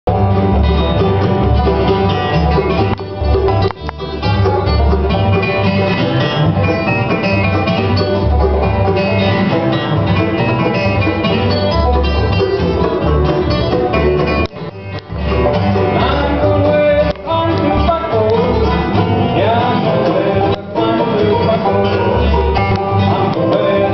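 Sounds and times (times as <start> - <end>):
bluegrass band playing: 0.1 - 23.9
upright bass thumping: 0.1 - 23.9.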